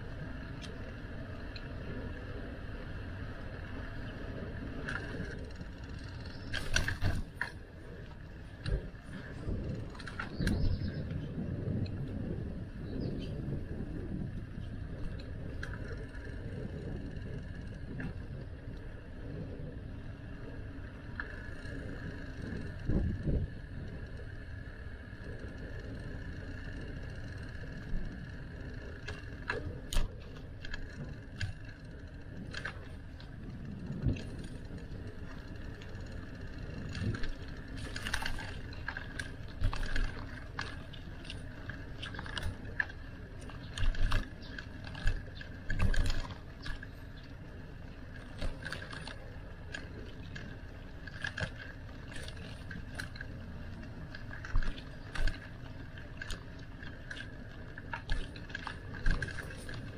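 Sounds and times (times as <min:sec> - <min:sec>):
bicycle rattling clicks: 0:00.0 - 0:59.9
bicycle tyres rumbling: 0:00.0 - 0:59.9.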